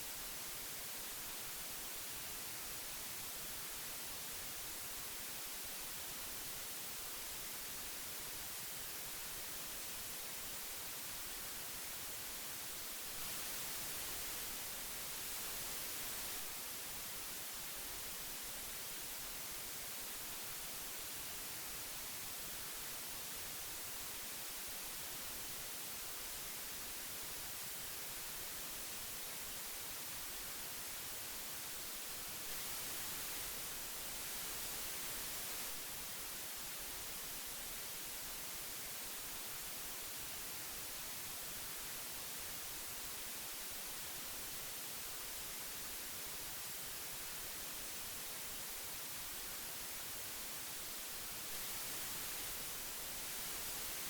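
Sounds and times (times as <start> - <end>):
tape hiss: 0.0 - 54.0.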